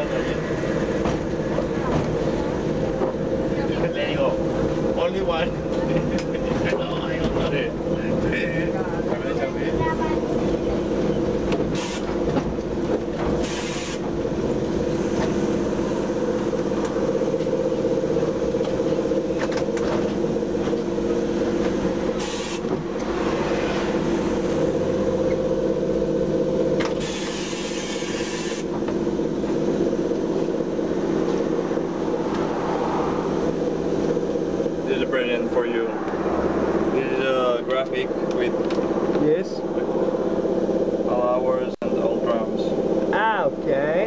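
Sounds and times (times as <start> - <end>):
rail noise: 0.0 - 44.0
tram motor and gear hum: 0.0 - 44.0.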